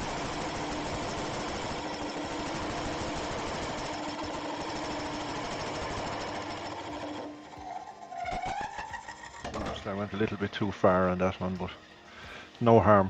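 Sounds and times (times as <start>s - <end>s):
wood lathe humming: 0.0s - 12.8s.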